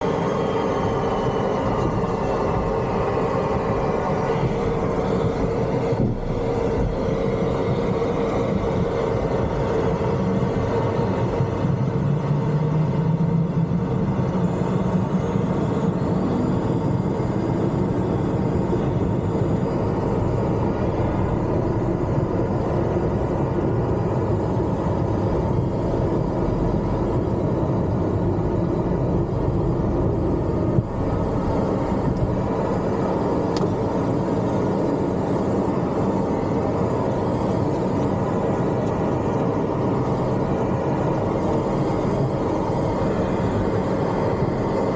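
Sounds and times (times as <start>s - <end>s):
airplane engines rumbling: 0.0s - 44.9s.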